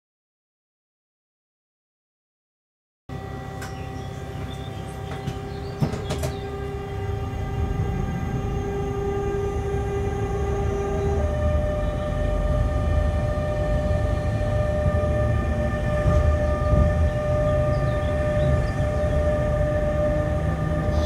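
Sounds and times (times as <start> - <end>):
electric locomotive traction whine: 3.1 - 21.0
wheels rumbling on track: 3.1 - 21.0.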